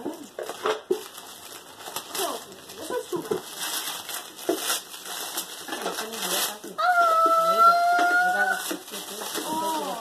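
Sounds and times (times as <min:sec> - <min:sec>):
wrapping paper tearing: 0:00.4 - 0:10.0.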